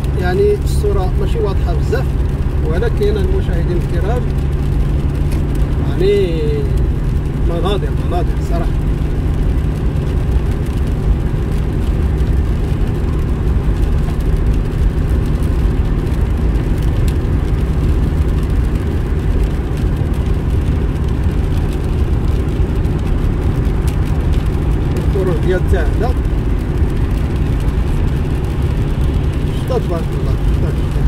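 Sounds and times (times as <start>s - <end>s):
car engine rumble: 0.0s - 31.0s
tyres on wet asphalt: 0.0s - 31.0s.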